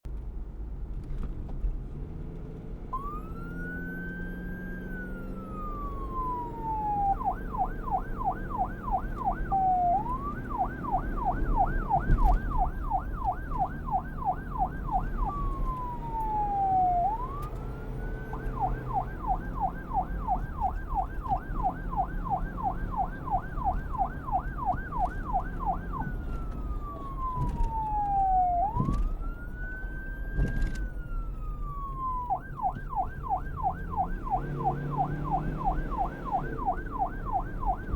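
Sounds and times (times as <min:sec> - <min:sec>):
police siren wailing and yelping: 0:03.0 - 0:37.9.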